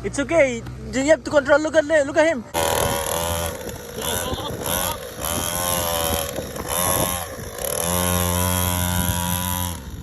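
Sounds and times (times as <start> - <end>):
dirt bike engine revving: 2.0 - 10.0.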